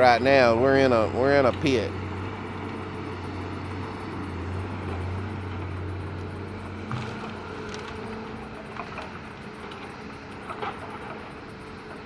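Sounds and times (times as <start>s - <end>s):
engine low hum: 0.0s - 12.0s.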